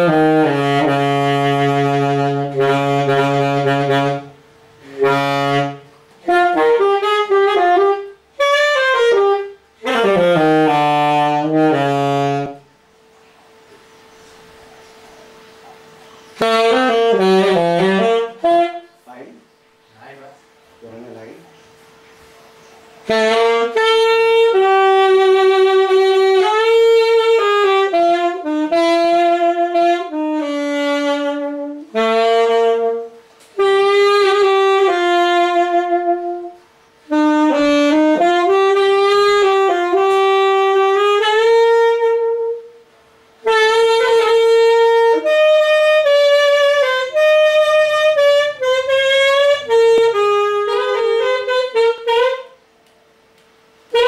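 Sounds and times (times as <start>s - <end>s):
solo saxophone melody: 0.0s - 19.5s, 20.5s - 52.8s, 53.6s - 54.0s.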